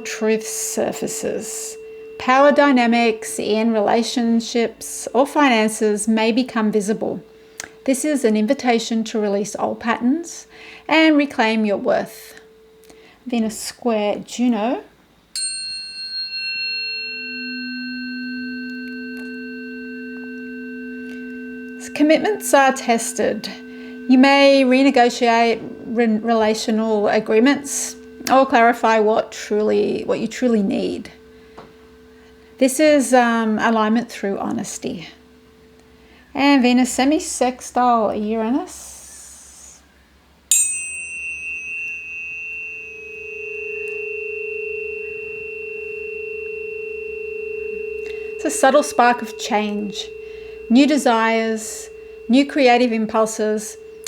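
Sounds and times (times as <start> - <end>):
high tuning fork ringing: 0.0 - 39.2, 40.0 - 54.0
low tuning fork tone: 0.0 - 54.0.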